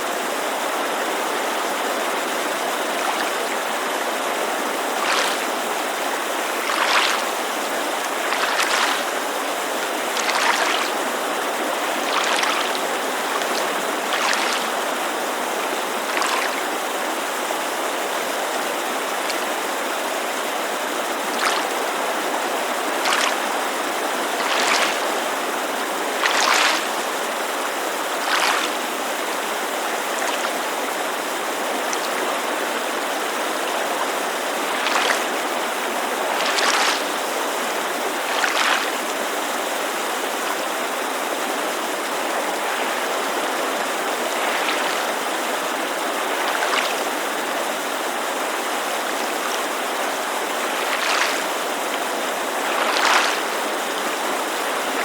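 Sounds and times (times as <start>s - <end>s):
creek rushing: 0.0s - 55.0s
small waves lapping: 0.0s - 55.0s.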